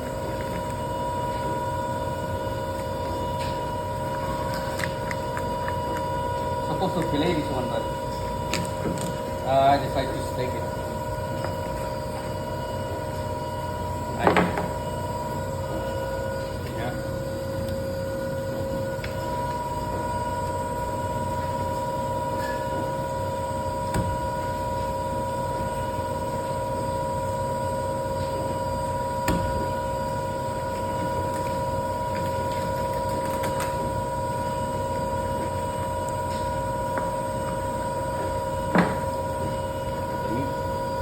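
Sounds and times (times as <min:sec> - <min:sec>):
machine hum with whining tones: 0:00.0 - 0:41.0.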